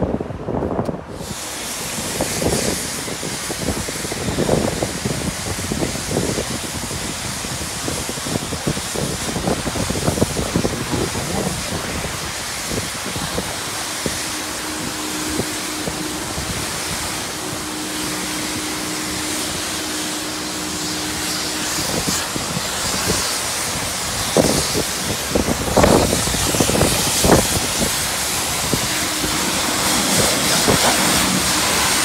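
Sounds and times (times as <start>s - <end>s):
wind on microphone: 0.0s - 32.0s
pressure washer spraying: 1.1s - 32.0s.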